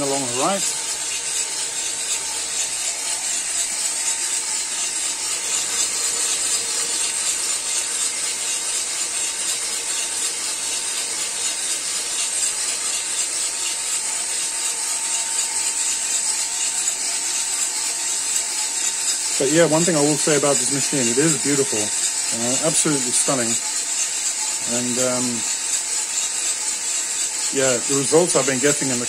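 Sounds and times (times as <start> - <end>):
coffee beans tumbling in drum: 0.0 - 29.0.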